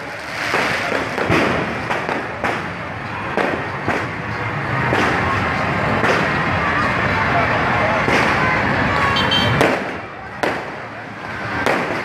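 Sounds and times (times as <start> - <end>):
fireworks bangs: 0.0 - 6.6, 8.0 - 12.0
street noise: 0.0 - 12.0.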